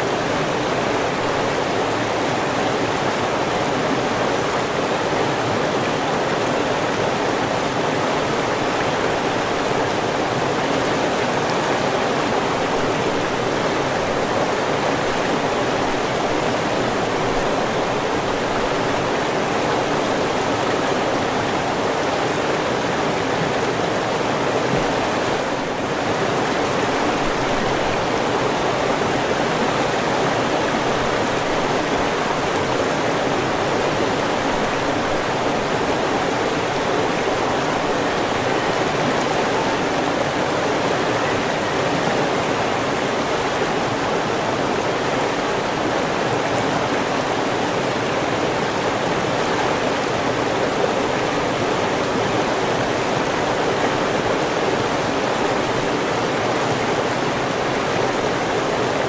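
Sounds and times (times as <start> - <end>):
flowing river water: 0.0 - 59.0.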